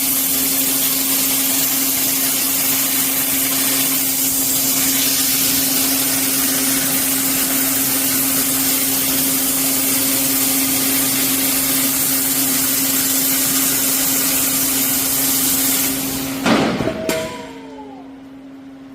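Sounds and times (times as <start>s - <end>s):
machine hum: 1.8s - 18.9s.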